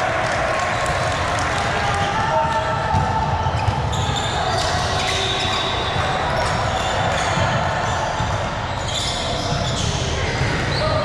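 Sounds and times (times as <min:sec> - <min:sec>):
mix of voices in echoing hall: 0:00.0 - 0:11.0
balls bouncing on hard court: 0:00.2 - 0:11.0.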